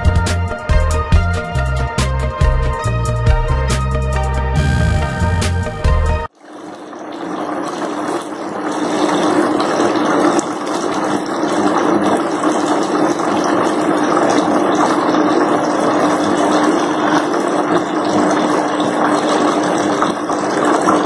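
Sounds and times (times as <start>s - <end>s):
electric pump hum: 0.0s - 21.0s.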